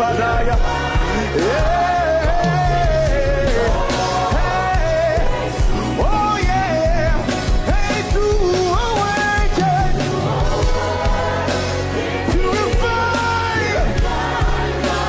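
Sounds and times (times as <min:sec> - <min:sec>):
band playing with steady beat: 0:00.0 - 0:15.0.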